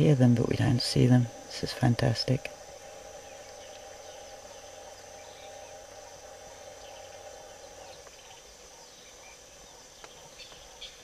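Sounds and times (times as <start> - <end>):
low hum: 0.0 - 10.3
faint bird chirps: 0.0 - 11.0
high-pitched insect chorus: 0.0 - 11.0.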